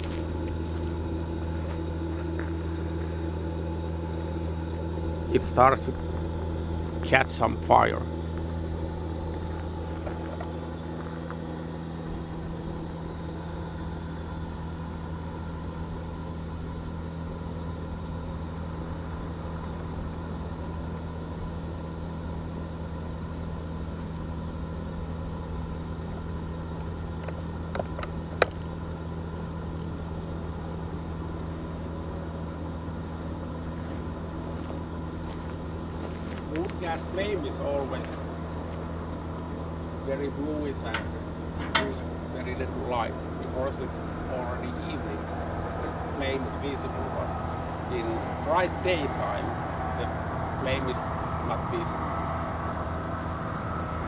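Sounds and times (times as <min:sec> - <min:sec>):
fan humming: 0:00.0 - 0:54.0.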